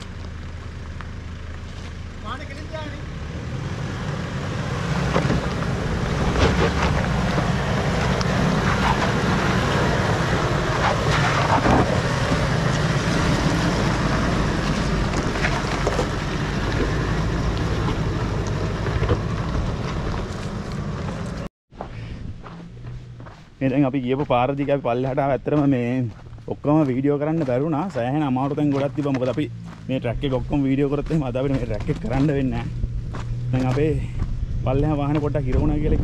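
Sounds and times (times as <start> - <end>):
vehicle engine and tyre rumble: 0.0 - 36.0.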